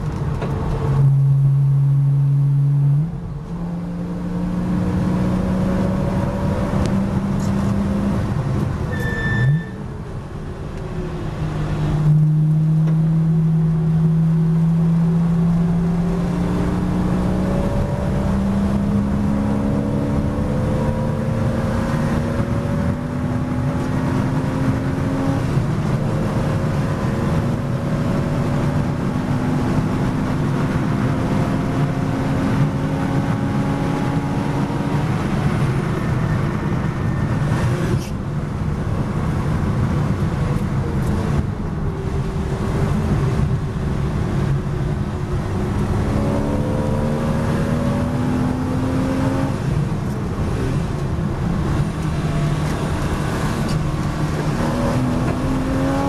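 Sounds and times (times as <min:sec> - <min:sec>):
race car engine at speed: 0:00.0 - 0:56.0
road noise: 0:00.0 - 0:56.0.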